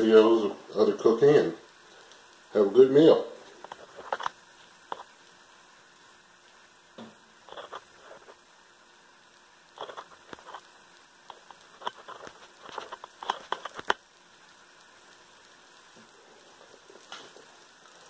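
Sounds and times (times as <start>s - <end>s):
faint hiss: 0.0s - 18.0s
meat crackling and popping: 0.0s - 18.0s.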